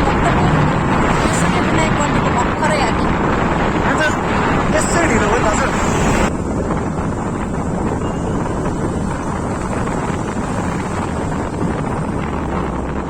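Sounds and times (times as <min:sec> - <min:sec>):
scooter engine: 0:00.0 - 0:04.7, 0:06.1 - 0:13.0
road noise: 0:00.0 - 0:13.0
wind buffeting microphone: 0:00.0 - 0:13.0.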